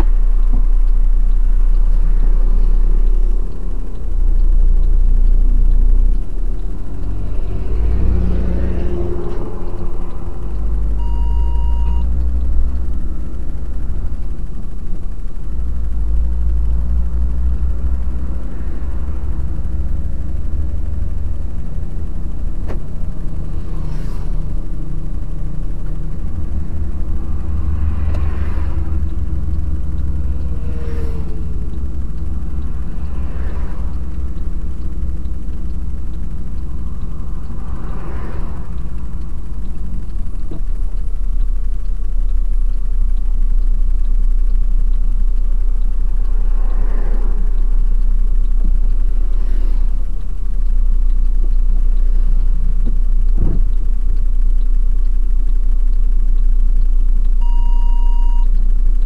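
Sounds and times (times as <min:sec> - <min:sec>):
passing traffic: 0:00.0 - 0:59.0
truck engine and tyre rumble: 0:00.0 - 0:59.0.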